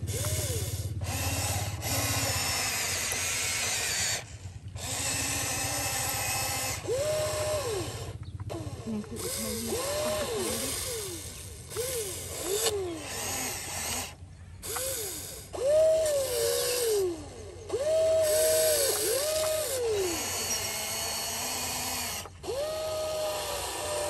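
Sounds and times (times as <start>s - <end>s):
toy excavator electric motors whining: 0.0s - 24.0s.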